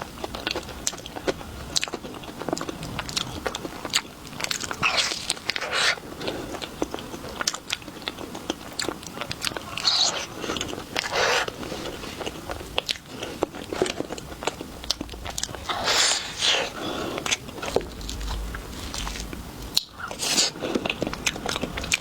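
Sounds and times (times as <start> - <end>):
crunchy chewing: 0.0 - 22.0.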